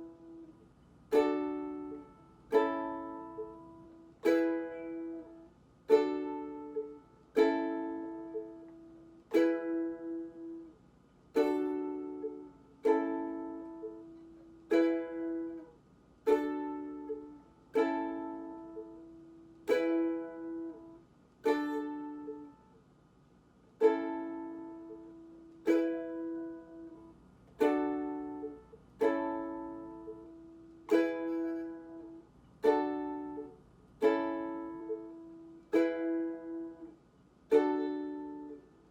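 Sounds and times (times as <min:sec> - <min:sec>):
ukulele chords strummed: 0:00.0 - 0:22.8, 0:23.8 - 0:38.9.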